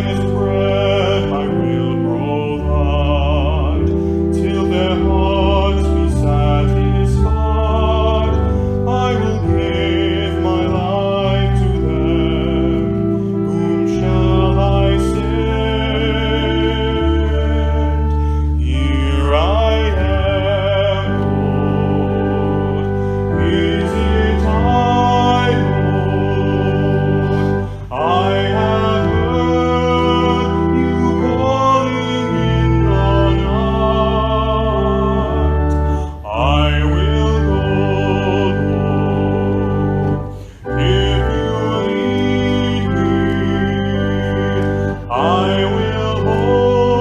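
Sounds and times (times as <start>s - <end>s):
held bass notes: 0.0s - 47.0s
person singing with vibrato: 0.0s - 47.0s
sustained keyboard chords: 0.0s - 47.0s.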